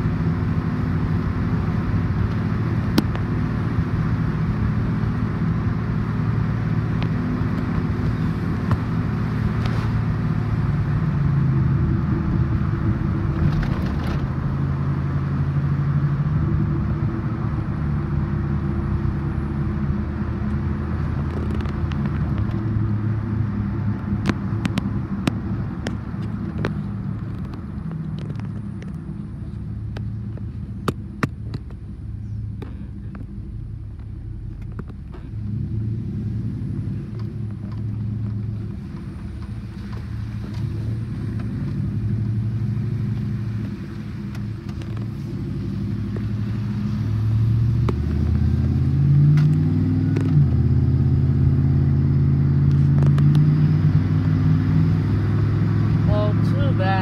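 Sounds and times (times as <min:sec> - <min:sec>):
car engine from inside cabin: 0:00.0 - 0:57.0
tyre noise on wet road: 0:00.0 - 0:57.0.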